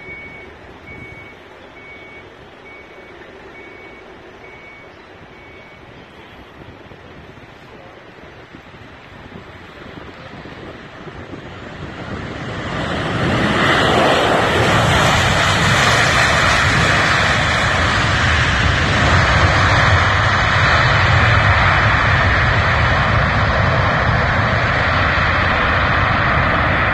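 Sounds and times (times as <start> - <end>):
jet engines rushing: 3.4 - 26.9.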